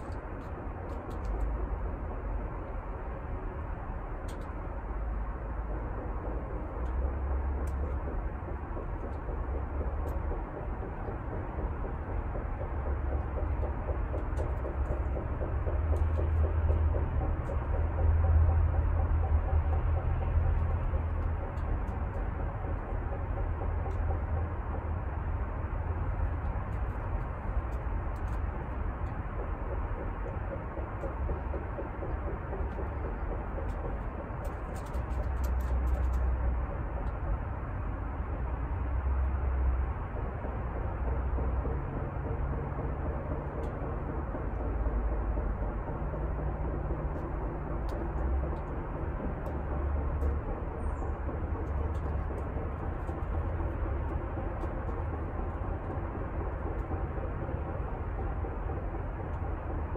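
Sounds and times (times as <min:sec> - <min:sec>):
constant low hum: 0:00.0 - 0:59.9
low rumble: 0:00.0 - 0:59.9.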